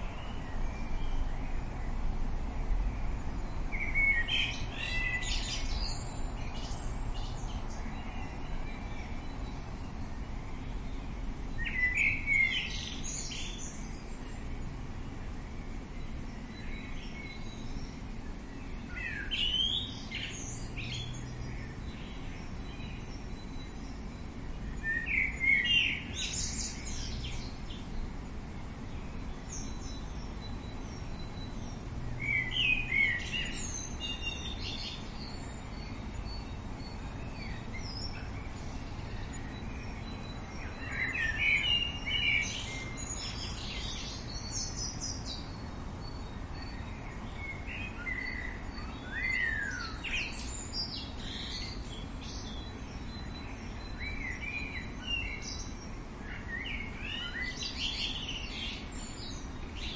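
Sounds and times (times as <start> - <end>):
outdoor background hiss: 0.0 - 59.9
songbirds chirping: 0.0 - 59.9.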